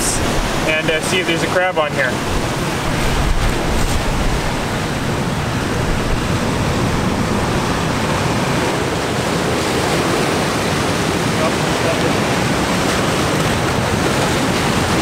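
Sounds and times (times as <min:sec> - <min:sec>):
ocean surf breaking: 0:00.0 - 0:15.0
wind buffeting microphone: 0:02.0 - 0:15.0.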